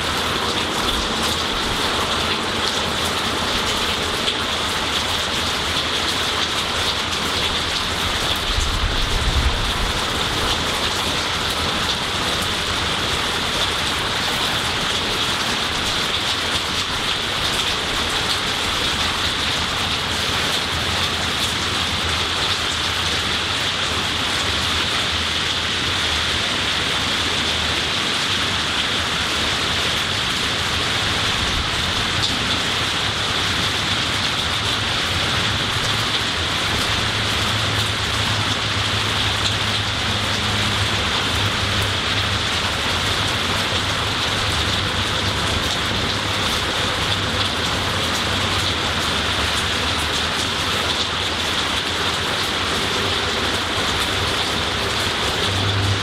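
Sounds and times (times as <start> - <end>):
rain falling on trees: 0.0 - 56.0.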